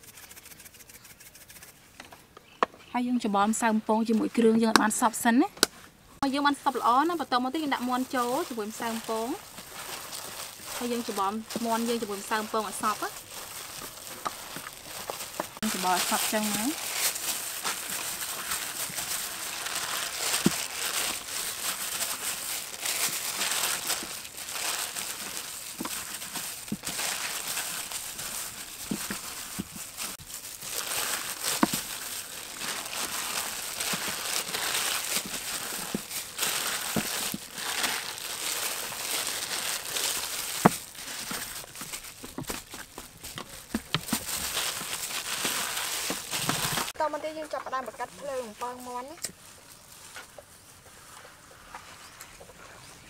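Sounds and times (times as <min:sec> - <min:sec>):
plastic gloves rustling in flour: 0:06.2 - 0:53.0.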